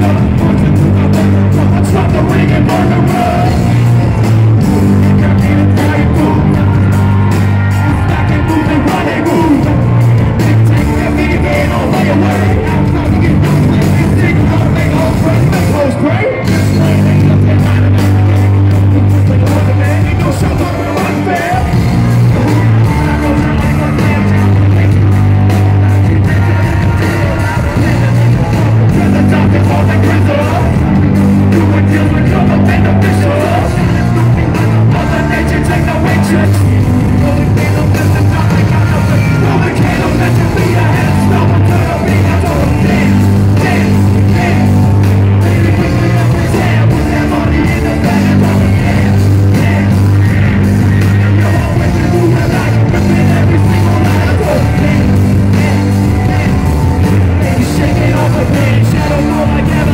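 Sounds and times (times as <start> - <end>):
heavy repeating bass line: 0.0 - 59.9
live band music: 0.0 - 59.9.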